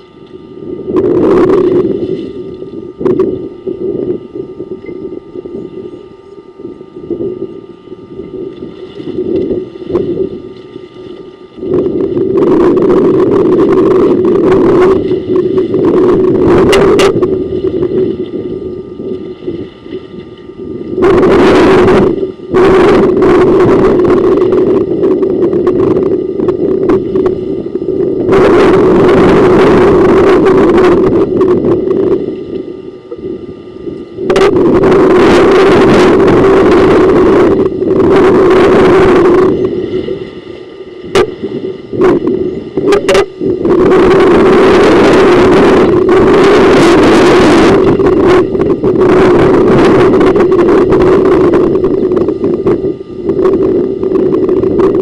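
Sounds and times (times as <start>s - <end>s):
steady low hum: 0.0s - 55.0s
wind buffeting microphone: 0.0s - 55.0s.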